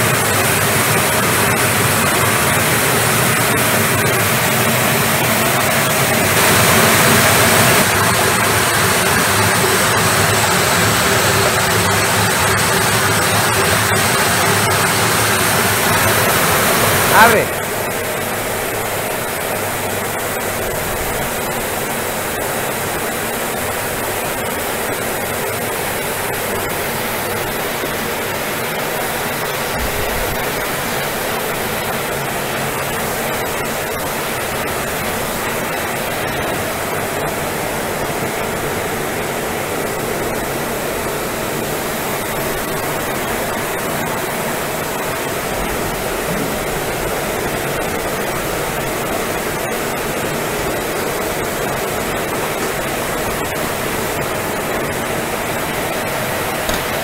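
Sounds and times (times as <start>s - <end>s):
machinery running with faint whine: 0.0s - 57.0s.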